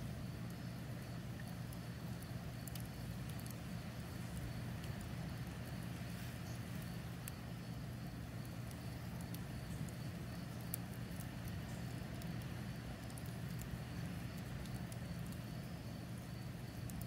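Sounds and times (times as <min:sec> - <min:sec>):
low rumble of flames: 0:00.0 - 0:17.0
wood crackling and popping: 0:00.0 - 0:17.0.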